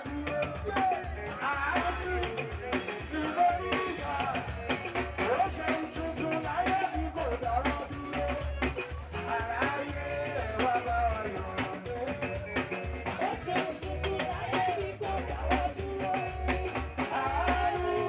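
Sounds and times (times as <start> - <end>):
party music with singing: 0.0 - 18.0.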